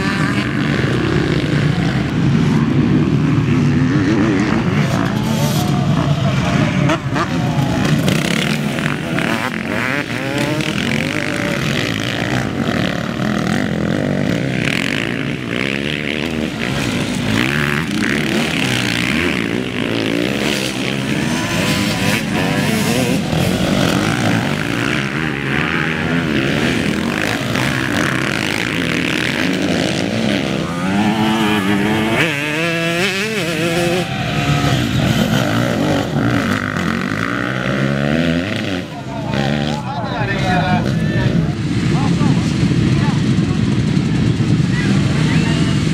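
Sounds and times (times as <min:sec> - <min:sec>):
motocross bikes racing past: 0:00.0 - 0:45.9.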